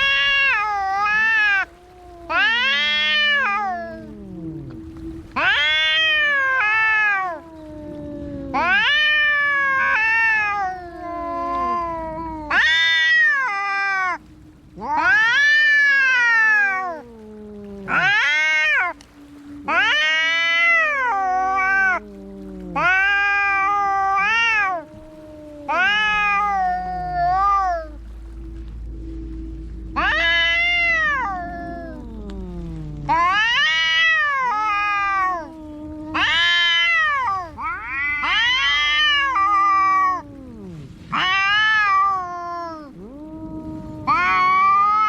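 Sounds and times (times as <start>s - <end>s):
cats yowling: 0.0s - 29.1s, 29.8s - 45.0s
steady low tone: 0.0s - 45.0s.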